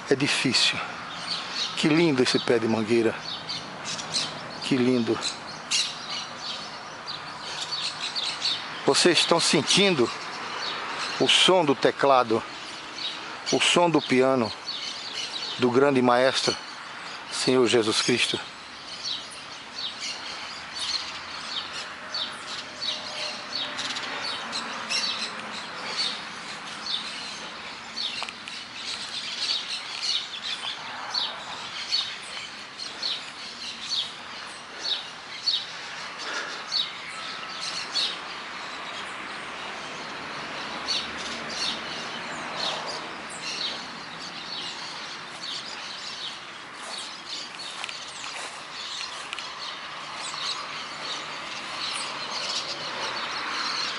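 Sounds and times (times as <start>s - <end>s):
birds chirping and singing: 0.0s - 53.9s
town background hum: 0.0s - 53.9s.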